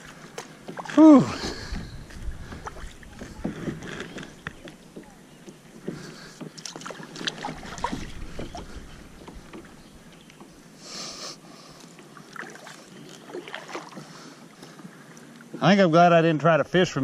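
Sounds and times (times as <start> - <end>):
kayak paddle splashing in water: 0.0 - 10.8, 12.0 - 15.6.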